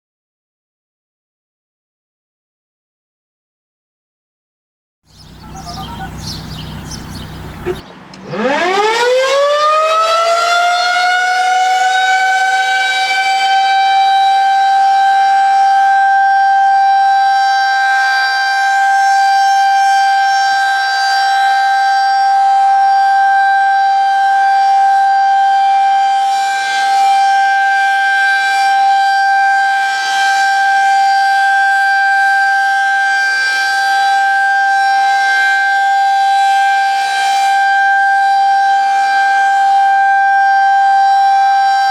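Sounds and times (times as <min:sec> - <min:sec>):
warning siren wailing: 0:05.1 - 0:41.9.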